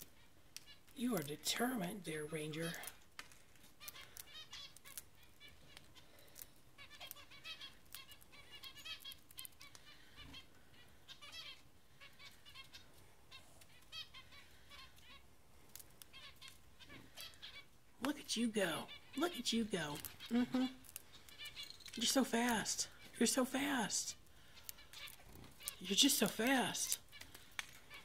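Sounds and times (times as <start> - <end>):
parakeet pecking and crunching: 0.0 - 28.0.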